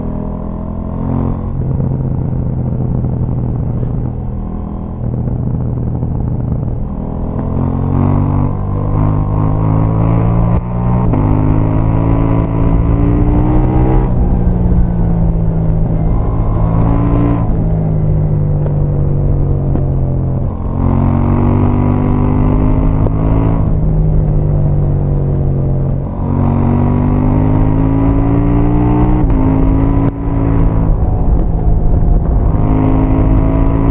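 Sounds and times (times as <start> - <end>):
motorcycle engine revving: 0.0 - 33.9
exhaust pops and crackles: 1.3 - 7.6, 8.4 - 33.9.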